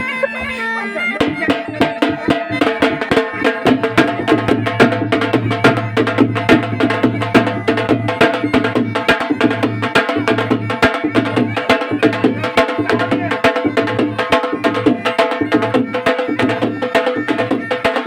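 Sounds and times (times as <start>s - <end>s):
instrumental music with driving beat: 0.0s - 18.0s.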